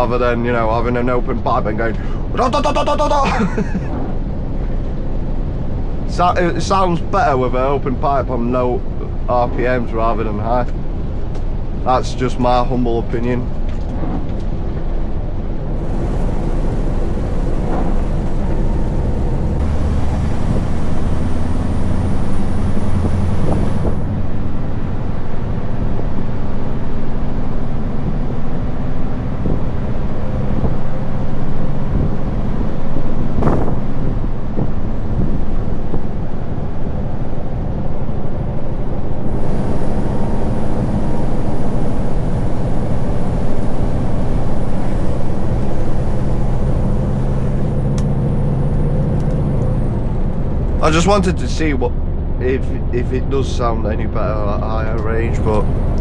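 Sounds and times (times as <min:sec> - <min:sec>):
lorry engine running under load: 0:00.0 - 0:56.0.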